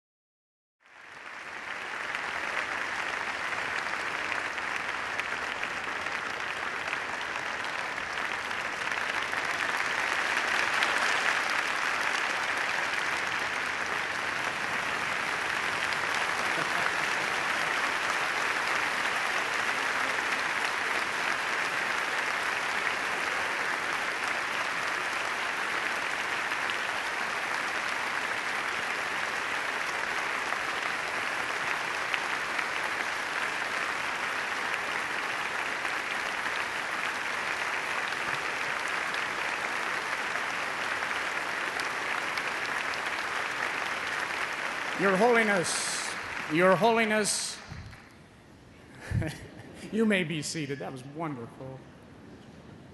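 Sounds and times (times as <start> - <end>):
audience applauding: 0.8 - 48.1.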